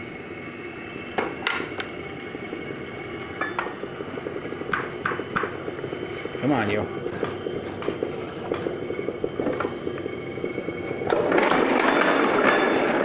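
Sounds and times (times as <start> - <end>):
milling machine drone: 0.0 - 13.0.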